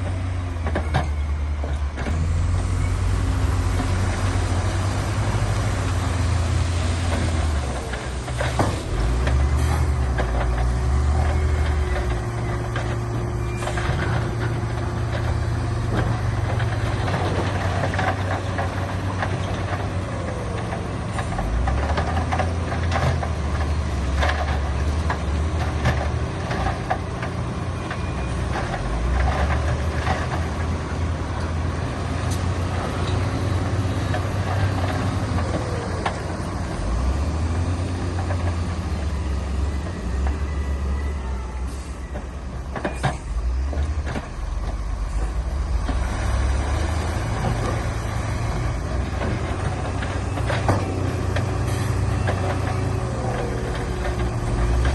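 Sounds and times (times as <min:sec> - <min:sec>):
heavy diesel machinery engine drone: 0:00.0 - 0:54.9.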